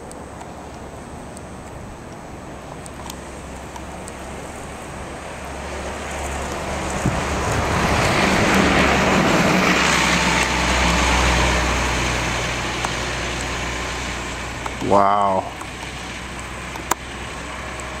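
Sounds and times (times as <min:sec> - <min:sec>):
diesel bus driving past: 0:00.0 - 0:18.0.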